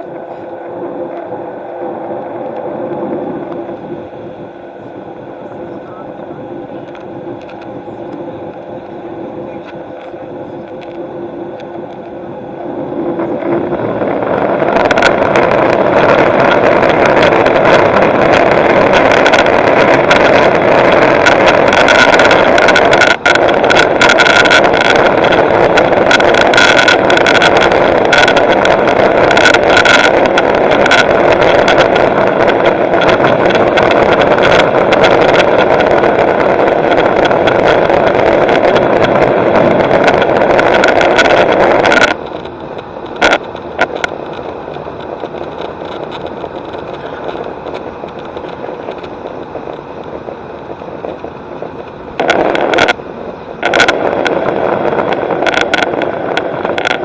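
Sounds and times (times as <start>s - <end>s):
aircraft engines spooling up: 0.0s - 57.0s.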